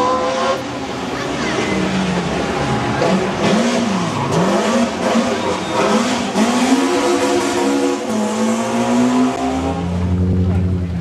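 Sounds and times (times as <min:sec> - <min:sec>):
race car engine revving: 0:01.6 - 0:11.0.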